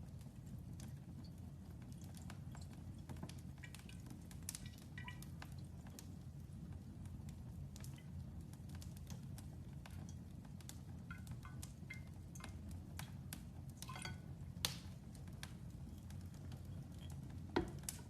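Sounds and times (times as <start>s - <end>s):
low steady rumble: 0.0s - 18.0s
wood fire crackling and popping: 0.0s - 18.0s.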